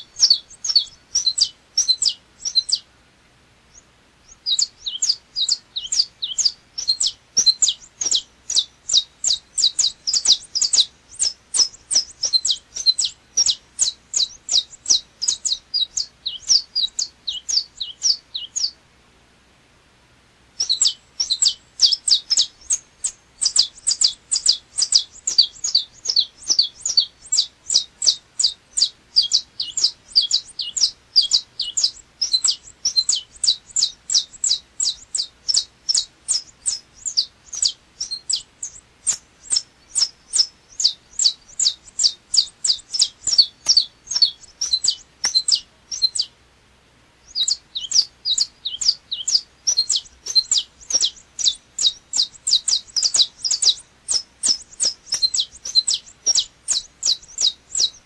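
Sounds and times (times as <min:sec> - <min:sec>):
finch singing high chirps: 0:00.0 - 0:02.9, 0:03.7 - 0:18.8, 0:20.6 - 0:46.4, 0:47.2 - 0:58.0.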